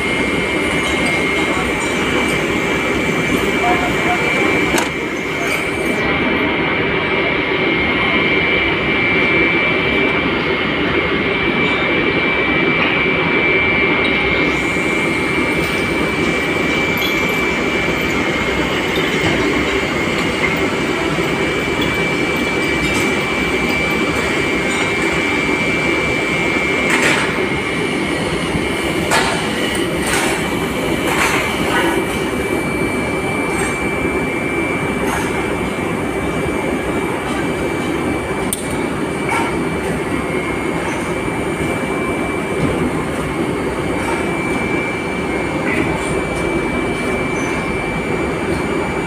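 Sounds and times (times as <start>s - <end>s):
steady high whine: 0.0s - 49.0s.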